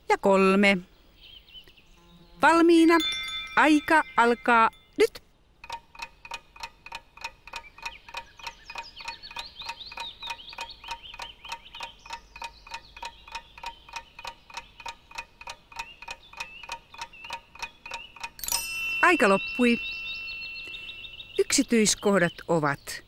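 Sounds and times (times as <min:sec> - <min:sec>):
high twittering chirps: 0:01.2 - 0:05.2, 0:07.4 - 0:23.0
clock ticking: 0:02.9 - 0:22.7.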